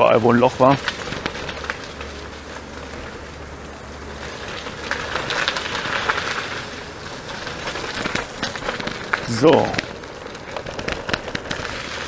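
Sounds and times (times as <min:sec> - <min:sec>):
scooter tyres rolling on gravel: 0:00.0 - 0:12.0.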